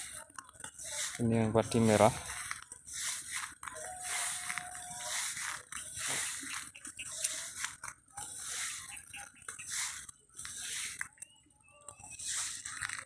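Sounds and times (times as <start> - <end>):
leaves rustling against phone: 0.0 - 13.0.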